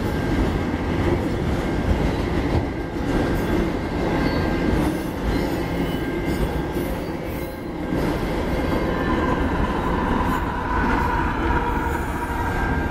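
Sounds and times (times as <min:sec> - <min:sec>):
diesel locomotive passing: 0:00.0 - 0:12.9
freight train rumbling past: 0:00.0 - 0:12.9.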